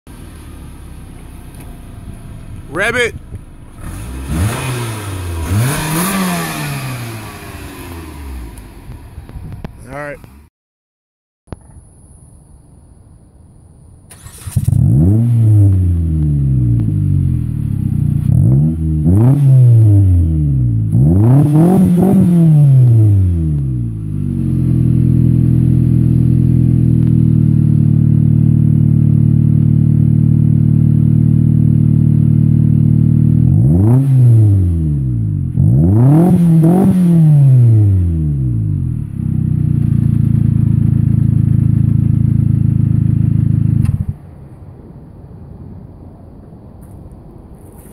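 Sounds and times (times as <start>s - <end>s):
car engine revving and idling: 0.1s - 10.5s, 14.1s - 44.2s.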